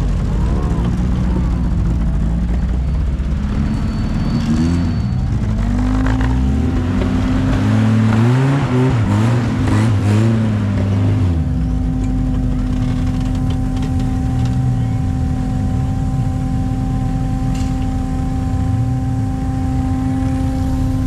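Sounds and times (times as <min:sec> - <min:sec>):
buggy engine revving: 0:00.0 - 0:21.0.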